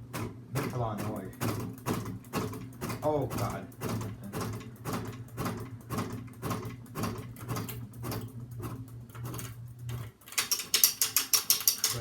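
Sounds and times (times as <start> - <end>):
rhythmic fan noise: 0.0 - 12.0
rapid clicking rattle: 0.2 - 12.0.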